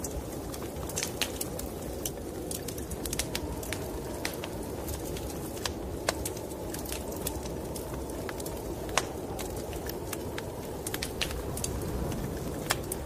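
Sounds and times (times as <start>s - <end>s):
snowstorm wind rushing: 0.0s - 13.0s
wood fire crackling: 0.0s - 13.0s.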